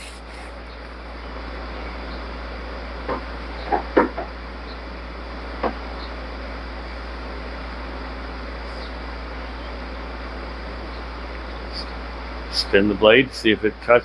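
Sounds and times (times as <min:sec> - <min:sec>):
low fan-like hum: 0:00.0 - 0:14.0.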